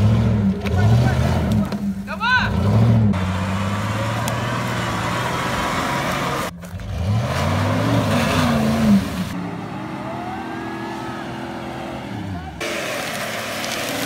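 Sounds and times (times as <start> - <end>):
engine revving in mud: 0.0 - 14.0
off-road engine running: 0.0 - 14.0
wheels spinning through mud: 0.0 - 14.0.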